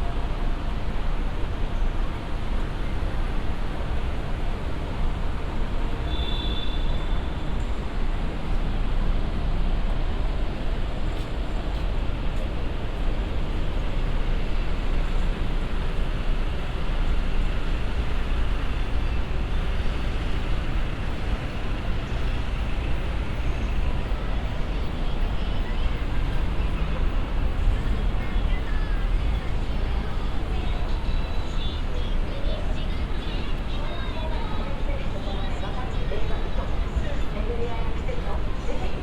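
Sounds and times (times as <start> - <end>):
city traffic rumble: 0.0 - 39.0.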